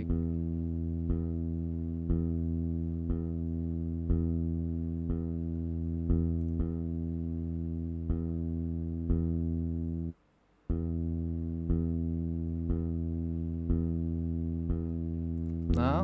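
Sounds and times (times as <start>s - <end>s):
low sustained bass note: 0.0s - 10.1s, 10.7s - 16.0s.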